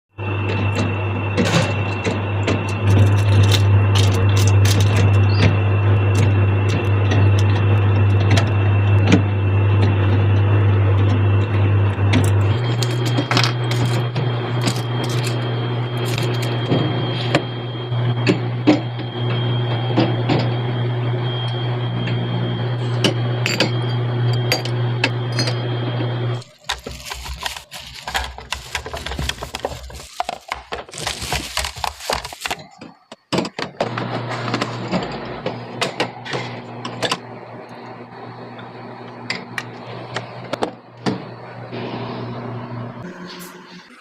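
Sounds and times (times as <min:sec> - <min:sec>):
fridge low hum: 0:00.1 - 0:44.0.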